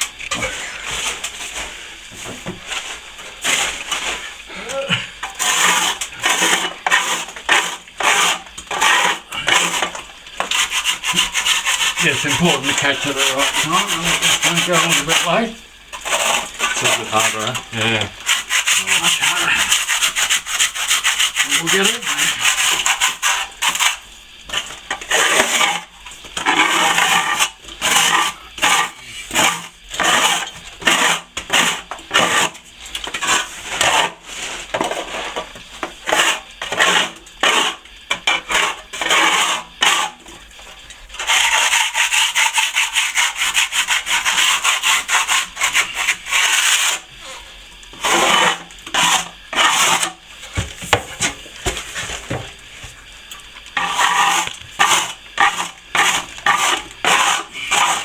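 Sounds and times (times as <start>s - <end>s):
steel scraper scraping plaster: 5.2s - 40.4s, 41.1s - 52.1s, 53.8s - 58.0s.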